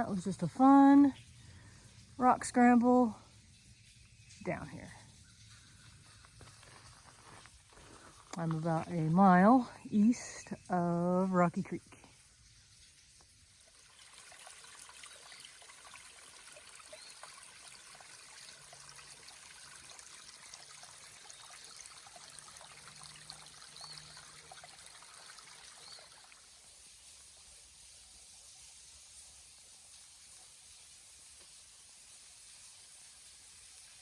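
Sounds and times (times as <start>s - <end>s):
water trickling over rocks: 0.0s - 34.0s.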